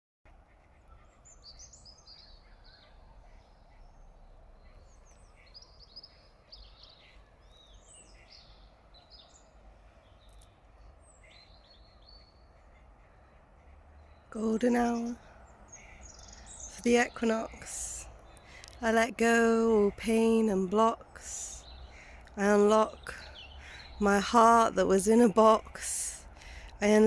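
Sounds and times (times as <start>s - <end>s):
small birds chirping: 0.3s - 27.0s.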